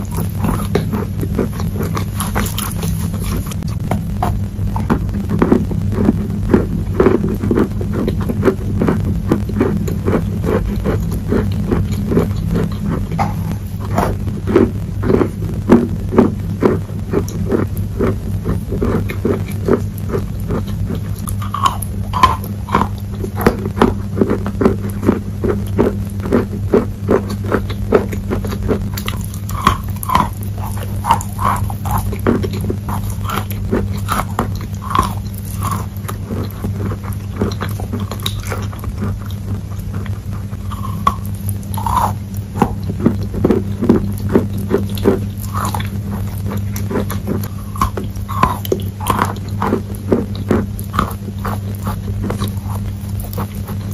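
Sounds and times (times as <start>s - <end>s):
chewing crunchy chalk: 0.0s - 53.9s
steady low hum: 0.0s - 53.9s.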